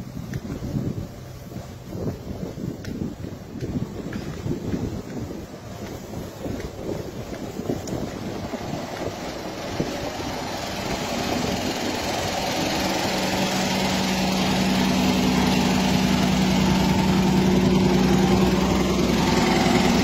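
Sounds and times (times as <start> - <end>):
steady hum: 0.0 - 20.0
vehicle engine idling: 0.0 - 20.0.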